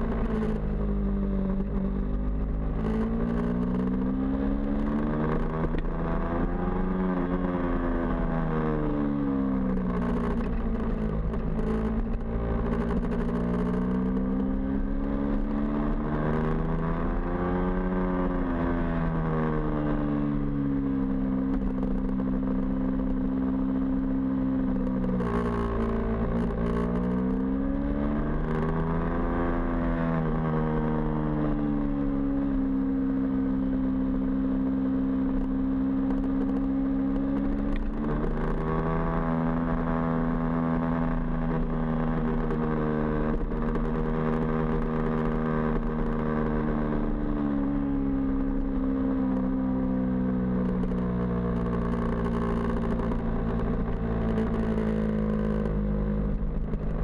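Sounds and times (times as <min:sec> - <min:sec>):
motorcycle engine revving: 0:09.8 - 0:57.0.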